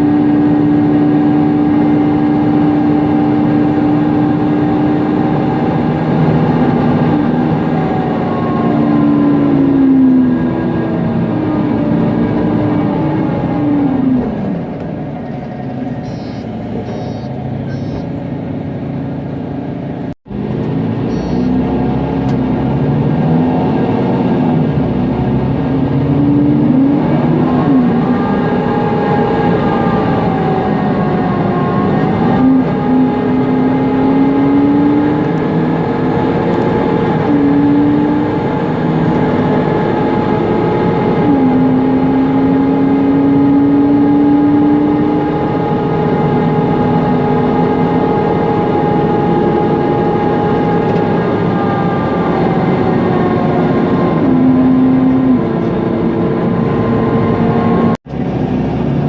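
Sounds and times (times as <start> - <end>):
bus engine changing gear: 0.0 - 59.0
engine cooling fan whine: 0.0 - 59.0.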